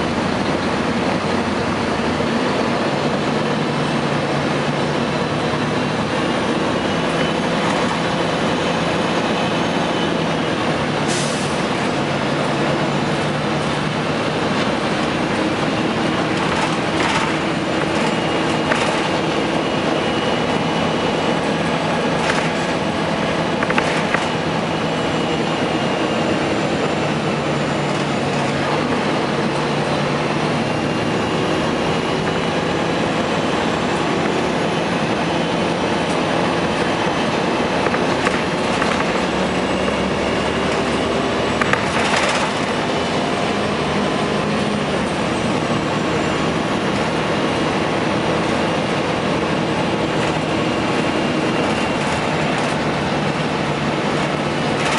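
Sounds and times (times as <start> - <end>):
diesel bus engine droning: 0.0 - 54.9.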